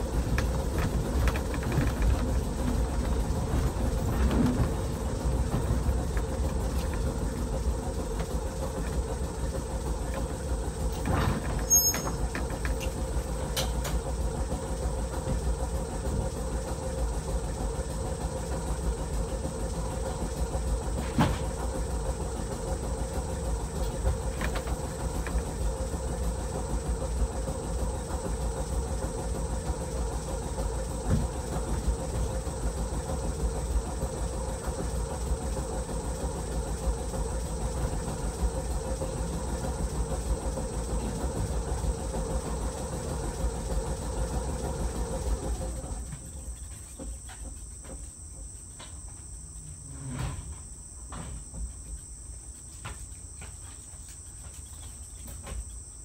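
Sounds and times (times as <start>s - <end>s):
air compressor humming: 0.0s - 56.0s
insects chirping: 0.0s - 56.0s.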